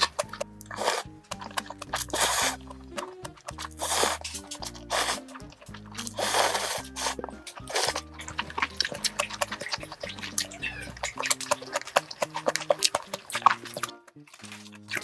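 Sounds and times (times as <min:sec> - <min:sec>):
background music with low notes: 0:00.0 - 0:15.0
noodles being slurped and chewed: 0:00.0 - 0:15.0
sharp mouth clicks: 0:00.0 - 0:15.0.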